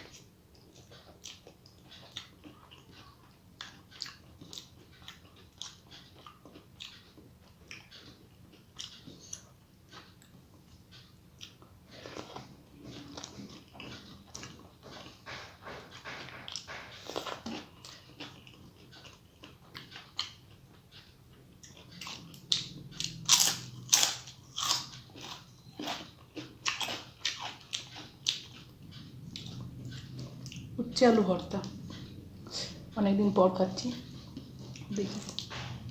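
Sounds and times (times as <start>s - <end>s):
soft chewing: 0.0s - 35.9s.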